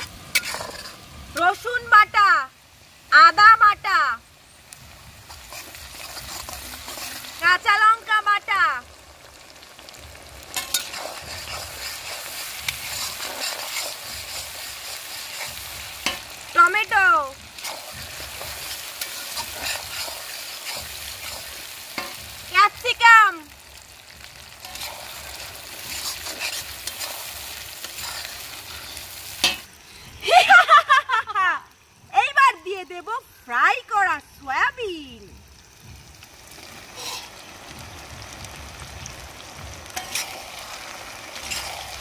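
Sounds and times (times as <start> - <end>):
onion frying in hot oil: 0.0 - 42.0.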